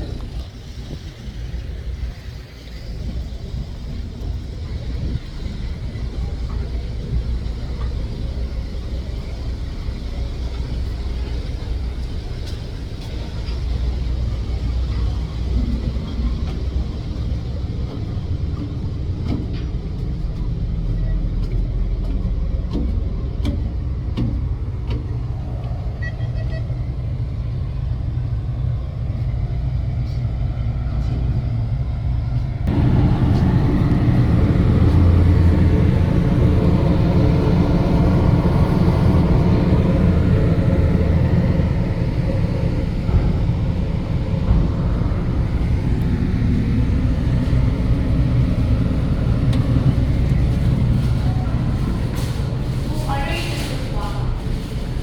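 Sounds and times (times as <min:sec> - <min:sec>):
low engine rumble: 0:00.0 - 0:55.0.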